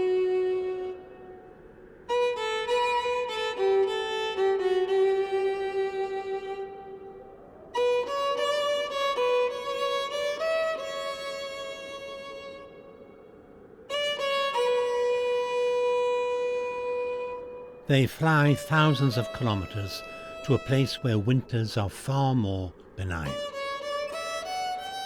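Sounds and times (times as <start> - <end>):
slow solo violin melody: 0.0 - 21.1, 23.3 - 25.0.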